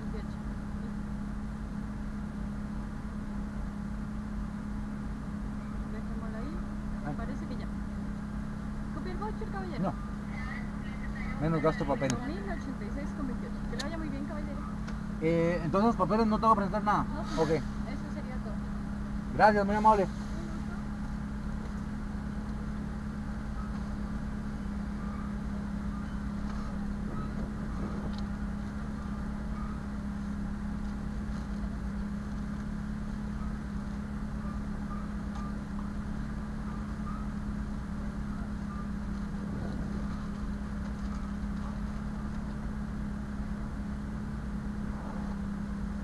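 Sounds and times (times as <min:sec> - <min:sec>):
van engine humming: 0:00.0 - 0:46.0.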